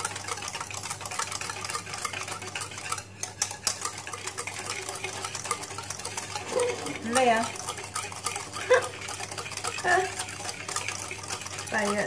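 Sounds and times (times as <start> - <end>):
metal whisk beating in plastic bowl: 0.0 - 12.0.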